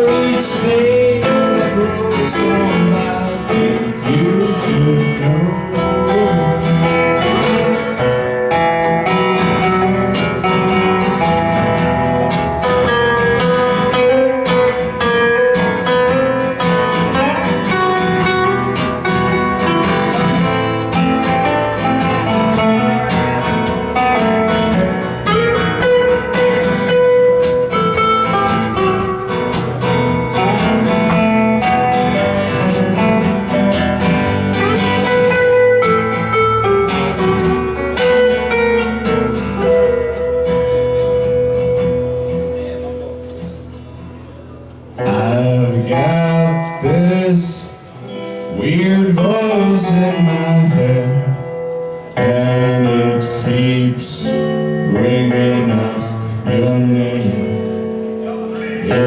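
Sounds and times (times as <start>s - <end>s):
live band guitar instrumental: 0.0s - 59.0s.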